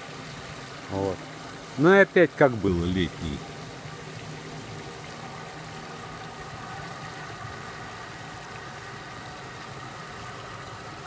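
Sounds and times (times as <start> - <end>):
pump mechanical hum: 0.0 - 11.0
water churning: 0.0 - 11.0.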